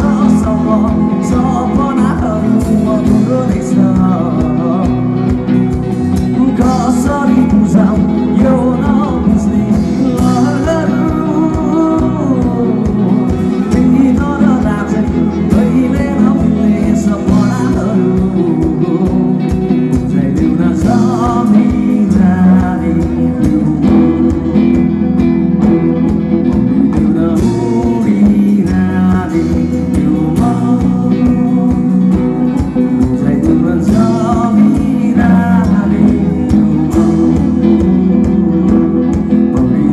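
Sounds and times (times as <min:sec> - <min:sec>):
drums: 0:00.0 - 0:39.9
man singing: 0:00.0 - 0:39.9
strummed acoustic guitar: 0:00.0 - 0:39.9.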